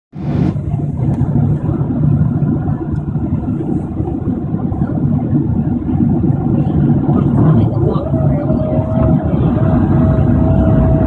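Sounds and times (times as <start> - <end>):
airliner cabin rumble: 0.1 - 11.0.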